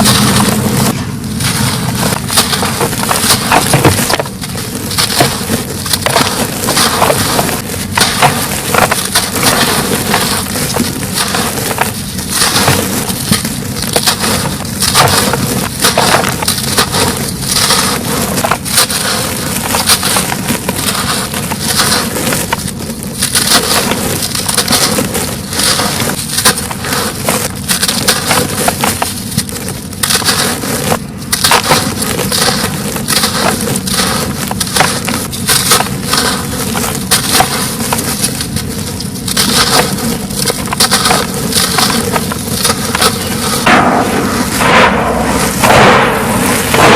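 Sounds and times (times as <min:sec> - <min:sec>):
concrete chunks crunching: 0:00.0 - 0:46.9.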